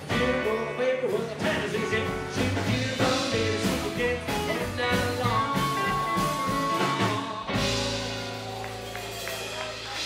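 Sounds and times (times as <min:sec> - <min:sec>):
person singing: 0:00.0 - 0:08.5
rockabilly band playing live: 0:00.0 - 0:10.0.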